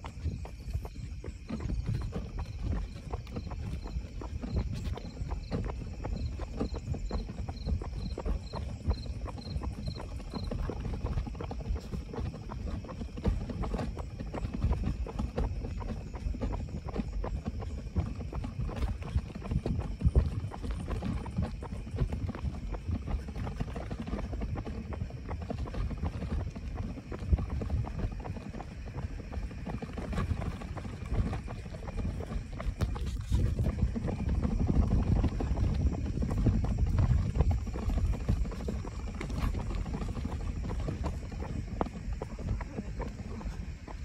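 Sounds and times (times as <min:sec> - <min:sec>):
jogging footsteps: 0:00.0 - 0:44.0
stroller rattling: 0:00.0 - 0:44.0.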